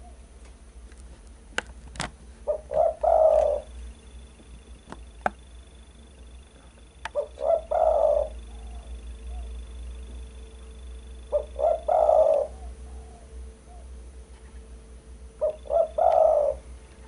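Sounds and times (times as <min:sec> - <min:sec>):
dove cooing: 0:02.4 - 0:04.0, 0:04.7 - 0:17.0.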